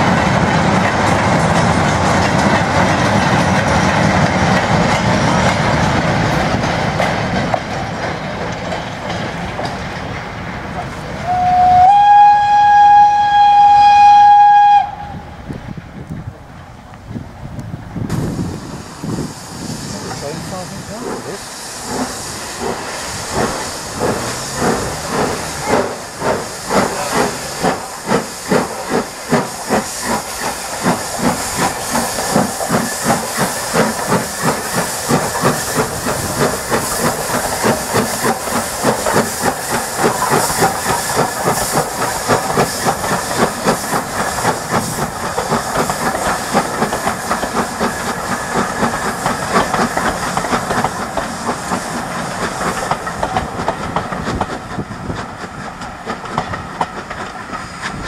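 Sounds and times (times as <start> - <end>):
steam hissing: 0.0 - 15.4, 18.0 - 58.0
steam locomotive chuffing: 0.0 - 15.8, 17.9 - 58.0.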